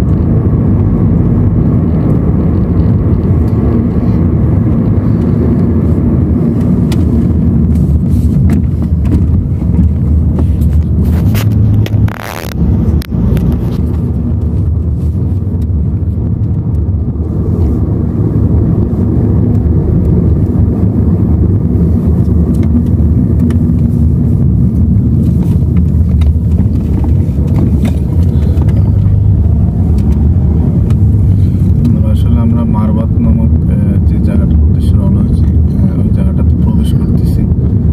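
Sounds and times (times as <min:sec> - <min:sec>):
engine and tyre rumble: 0:00.0 - 0:37.9.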